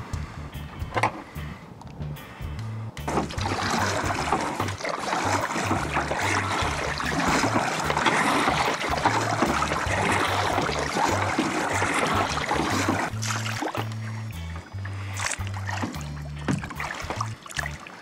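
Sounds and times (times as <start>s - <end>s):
kayak paddle splashing water: 3.1s - 18.0s.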